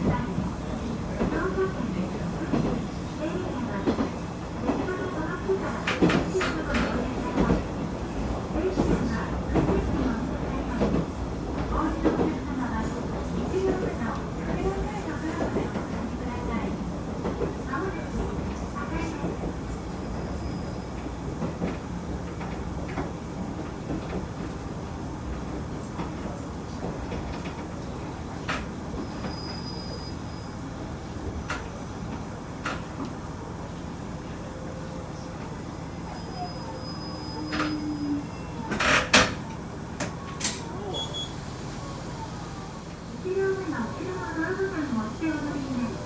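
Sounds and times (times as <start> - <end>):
diesel railcar rumbling: 0.0 - 46.0.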